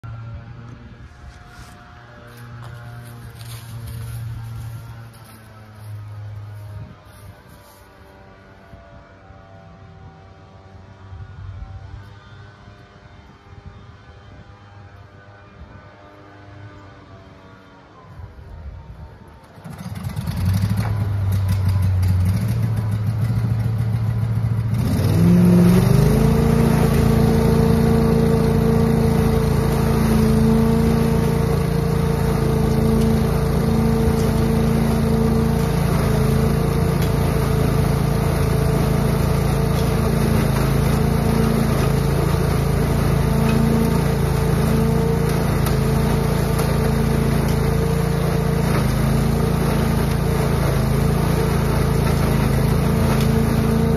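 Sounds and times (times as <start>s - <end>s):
leaf vacuum engine running: 0.0s - 53.9s.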